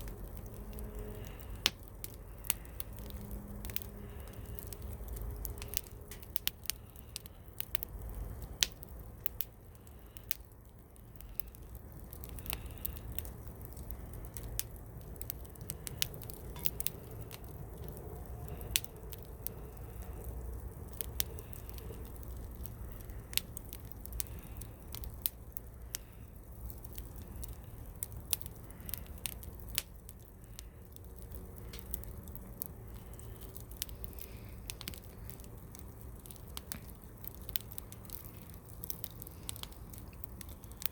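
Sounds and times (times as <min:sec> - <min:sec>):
campfire crackling and popping: 0:00.0 - 0:40.9
low steady rumble: 0:00.0 - 0:40.9.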